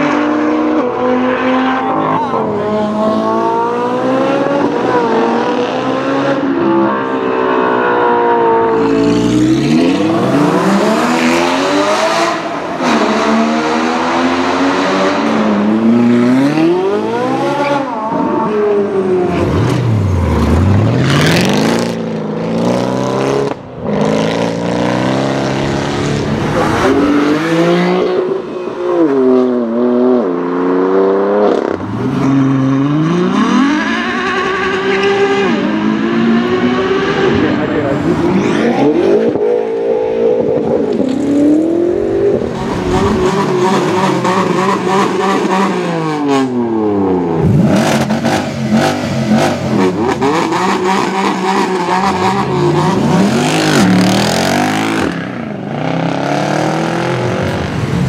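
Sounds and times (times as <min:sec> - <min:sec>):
car engines revving and accelerating: 0:00.0 - 0:58.0.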